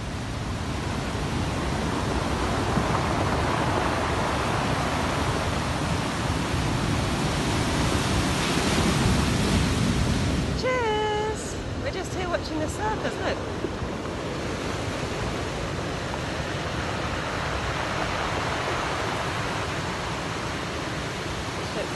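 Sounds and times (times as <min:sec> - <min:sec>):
waves breaking on beach: 0:00.0 - 0:21.9.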